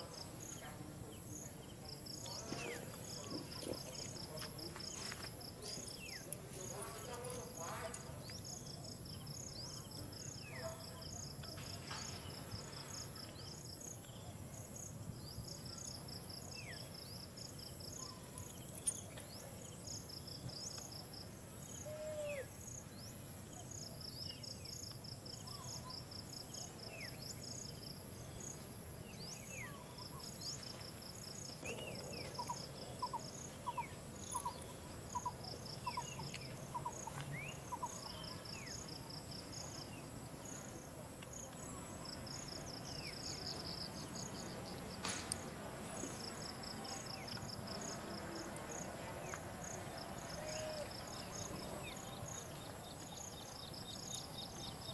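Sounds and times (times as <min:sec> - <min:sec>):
lower repeated insect notes: 0:00.0 - 0:54.9
steady high insect hum: 0:00.0 - 0:54.9.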